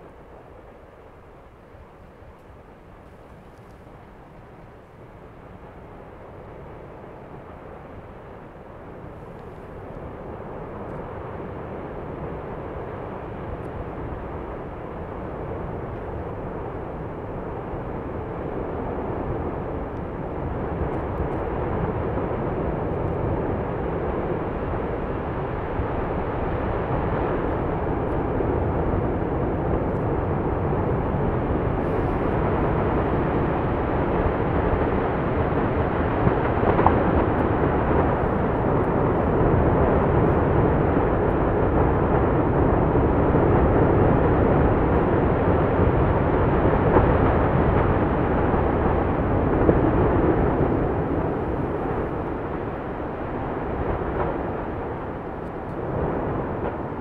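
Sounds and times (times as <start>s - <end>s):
volcano lava roaring: 0.0s - 57.0s.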